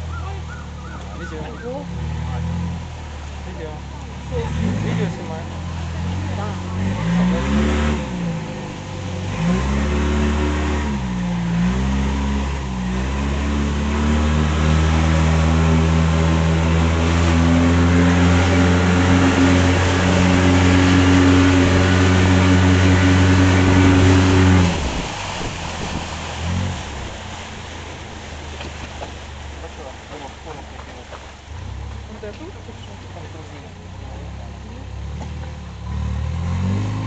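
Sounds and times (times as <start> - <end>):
motorboat engine revving: 0.0 - 37.0.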